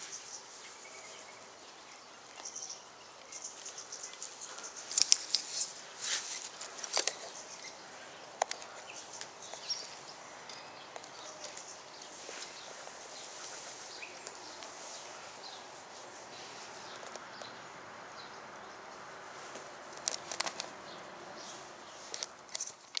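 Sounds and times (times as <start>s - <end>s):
bird chirps: 0.0s - 18.9s.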